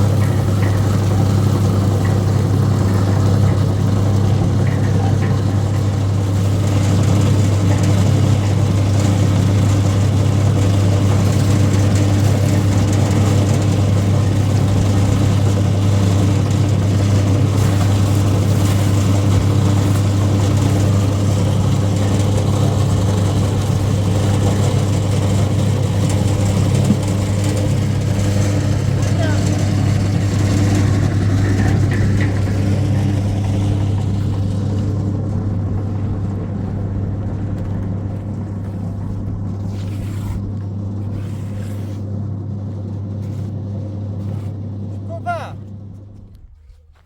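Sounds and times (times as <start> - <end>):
motor engine running: 0.0 - 47.0.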